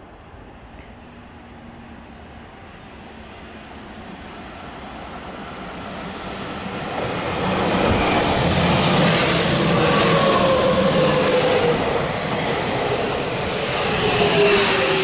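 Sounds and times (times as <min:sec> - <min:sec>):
electric train approaching: 0:00.0 - 0:15.0.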